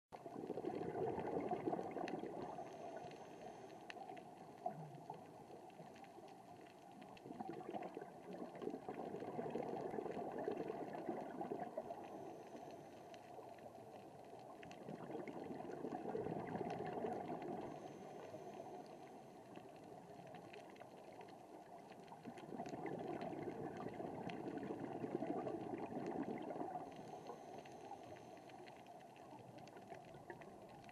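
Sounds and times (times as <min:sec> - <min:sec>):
exhaled air bubbling: 0:00.2 - 0:30.9.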